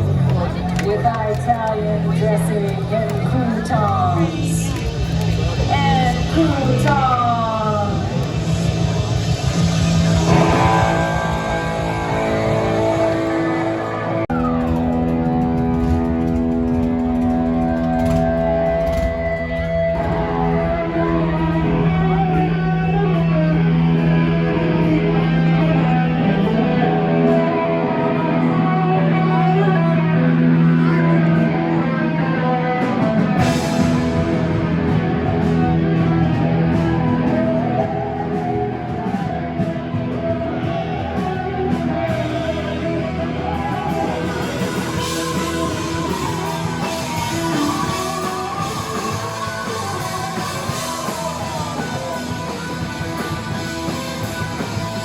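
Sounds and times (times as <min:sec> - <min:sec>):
rock music with guitar: 0:00.0 - 0:55.0.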